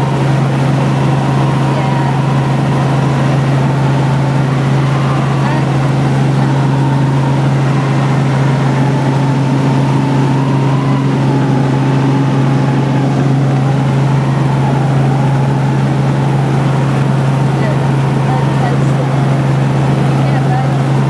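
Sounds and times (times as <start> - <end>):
helicopter cabin drone: 0.0 - 21.0.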